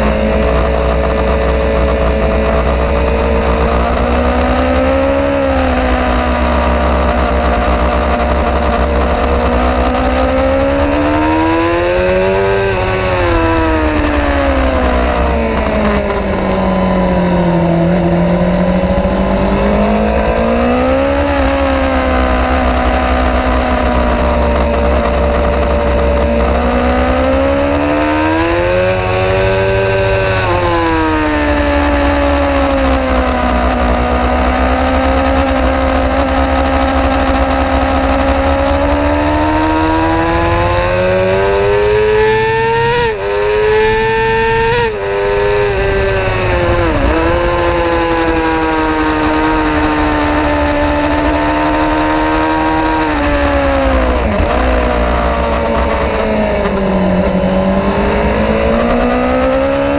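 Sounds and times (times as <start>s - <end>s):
motorcycle engine revving: 0.0s - 59.9s
wind rumble: 0.0s - 59.9s.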